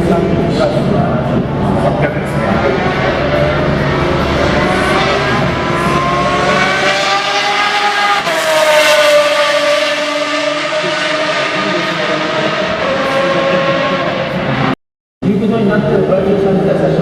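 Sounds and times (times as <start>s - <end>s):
supercar engine passing by: 0.0s - 14.7s.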